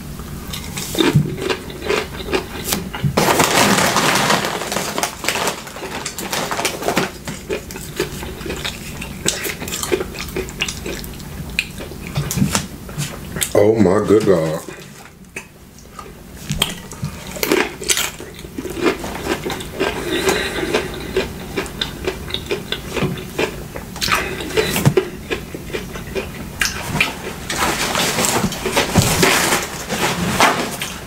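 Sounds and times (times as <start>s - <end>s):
chewing: 0.2s - 3.2s, 5.8s - 29.6s.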